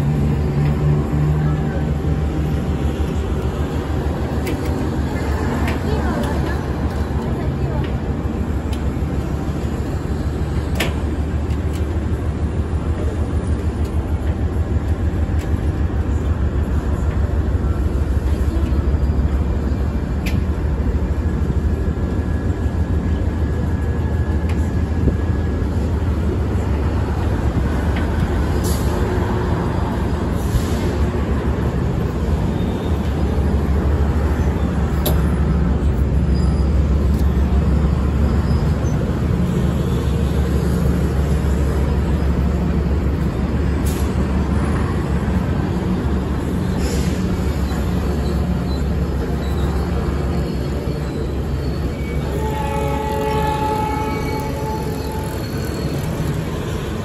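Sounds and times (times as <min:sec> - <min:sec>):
locomotive engine rumble: 0:00.0 - 0:57.0.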